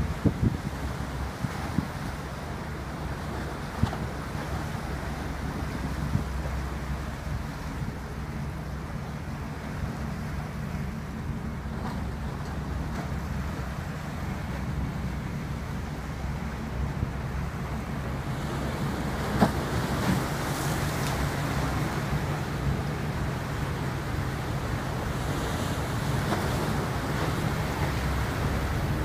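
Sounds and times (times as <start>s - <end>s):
boat diesel engines droning: 0.0s - 29.0s
water noise: 0.0s - 29.0s
wind: 0.0s - 29.0s.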